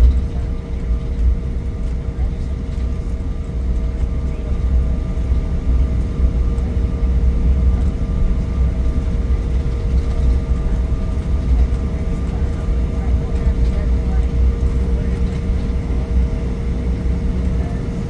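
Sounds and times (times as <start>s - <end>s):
jet cabin rumble: 0.0s - 18.0s.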